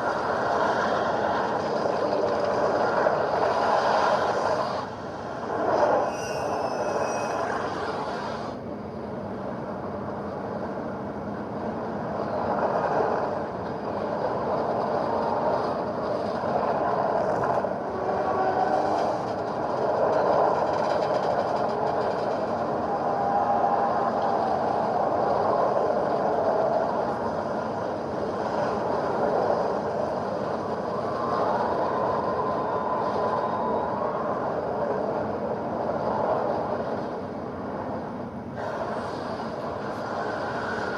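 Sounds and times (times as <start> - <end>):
roaring wind: 0.0 - 40.9.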